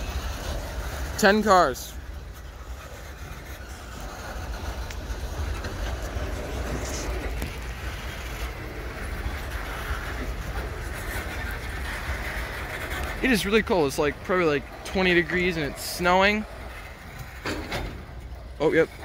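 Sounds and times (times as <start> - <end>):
freight cars rolling slowly: 0.0 - 19.0.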